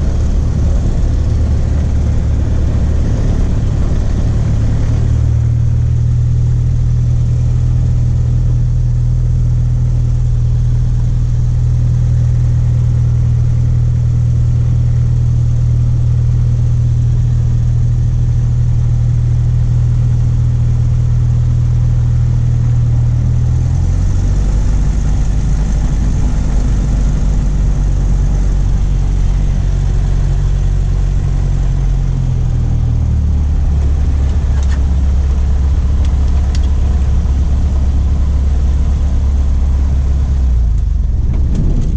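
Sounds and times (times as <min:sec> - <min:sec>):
propeller plane engine running: 0:00.0 - 0:41.9.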